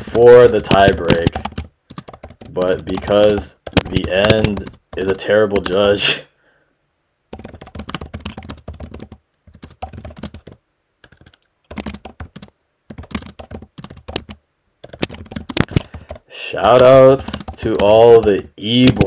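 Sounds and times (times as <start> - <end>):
computer keyboard typing: 0.1 - 6.0, 7.3 - 19.0.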